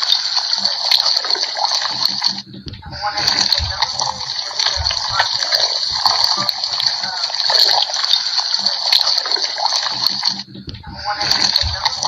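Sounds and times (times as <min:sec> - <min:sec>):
stomach gurgling: 0:00.0 - 0:12.0.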